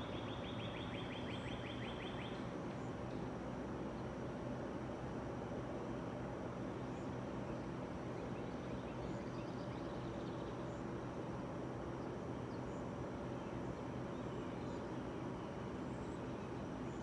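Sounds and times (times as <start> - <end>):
low outdoor hum and hiss: 0.0 - 17.0.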